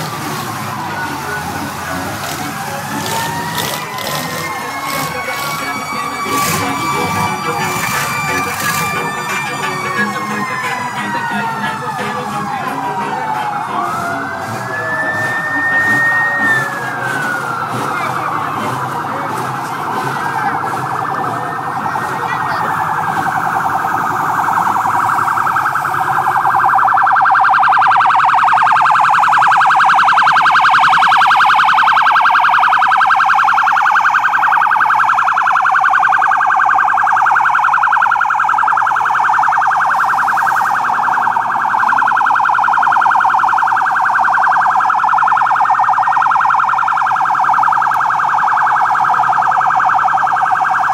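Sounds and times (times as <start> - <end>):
sirens wailing: 0.0 - 50.9.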